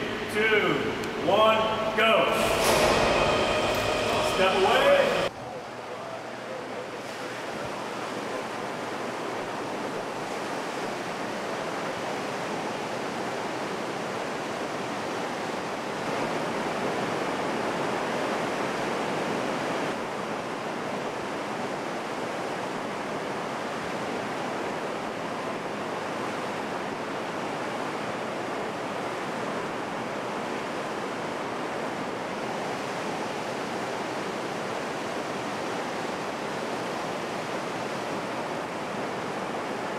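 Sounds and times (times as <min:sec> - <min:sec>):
water rushing through culverts: 0:07.1 - 0:39.9.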